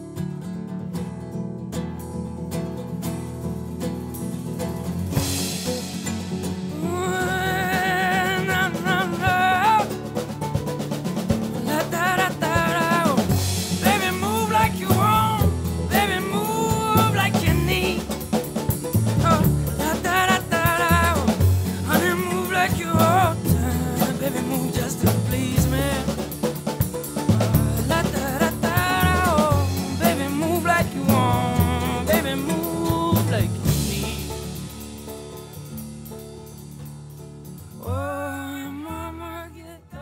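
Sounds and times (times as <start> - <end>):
song with drum kit: 2.0 - 39.0.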